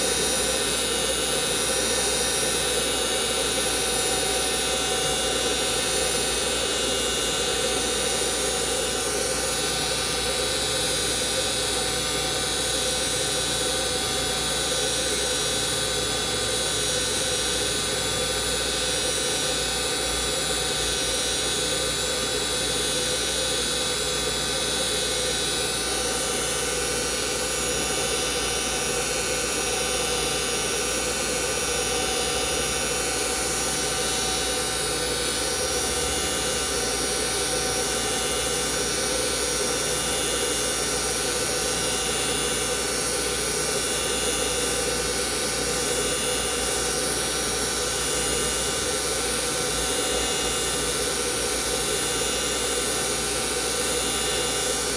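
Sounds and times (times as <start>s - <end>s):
grinder high-pitched whine: 0.0s - 54.9s.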